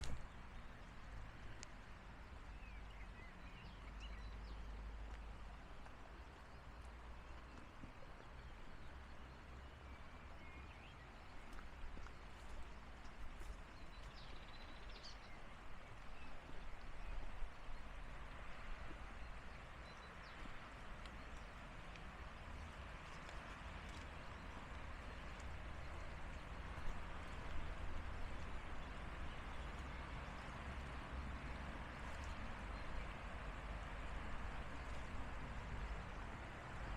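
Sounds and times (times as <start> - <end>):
low wind rumble: 0.0 - 36.9
stream water rushing: 0.0 - 36.9.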